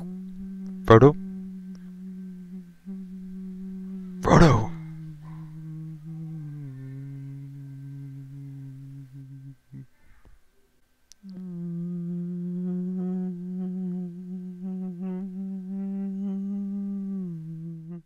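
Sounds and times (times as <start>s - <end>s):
man humming: 0.0s - 10.0s, 11.1s - 18.0s.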